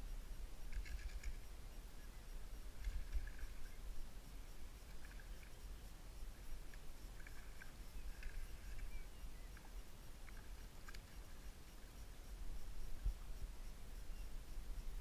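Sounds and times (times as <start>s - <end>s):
faint high chirps: 0.0s - 15.0s
low wind rumble on microphone: 0.0s - 15.0s.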